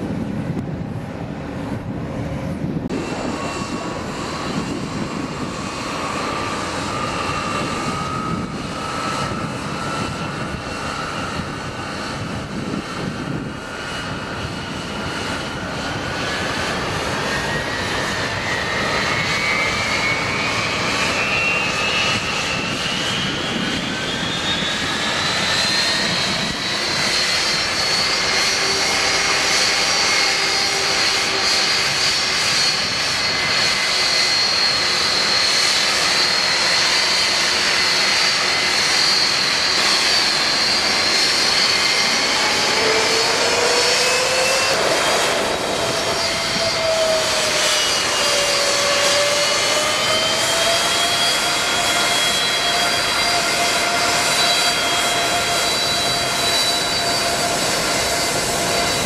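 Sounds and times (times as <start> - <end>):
jet engine rush: 0.0 - 59.0
jet engine whine rising: 0.0 - 59.0.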